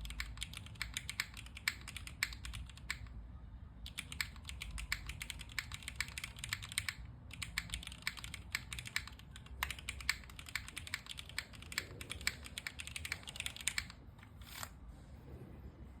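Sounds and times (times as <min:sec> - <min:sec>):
mechanical keyboard typing: 0:00.0 - 0:03.1, 0:03.8 - 0:14.0.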